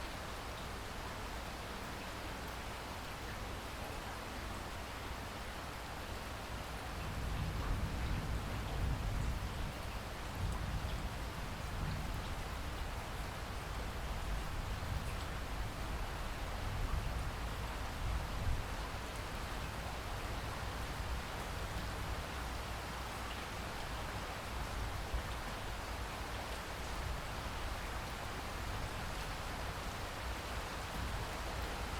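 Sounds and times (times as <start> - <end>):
steady rainfall: 0.0 - 31.9.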